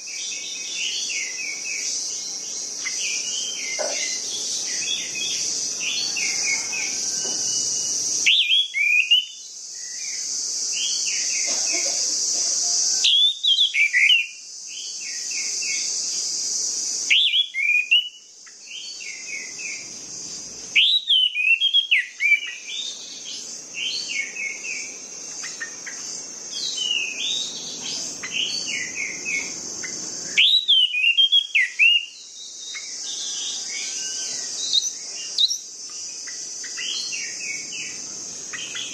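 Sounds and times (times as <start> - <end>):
high insect buzz: 0.0 - 38.9.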